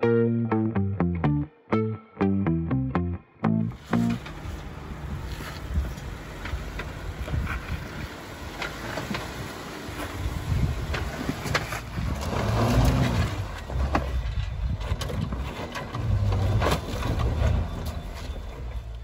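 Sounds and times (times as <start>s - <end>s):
car engine running at low speed: 3.6s - 19.0s.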